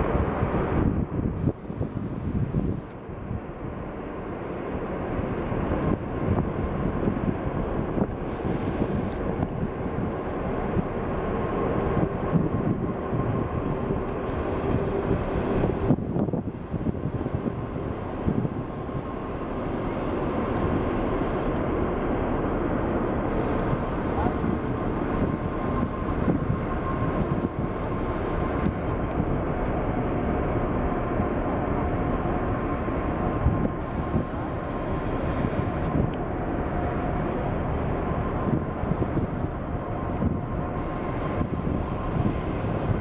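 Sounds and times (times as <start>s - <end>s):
ship engines low rumble: 0.0s - 43.0s.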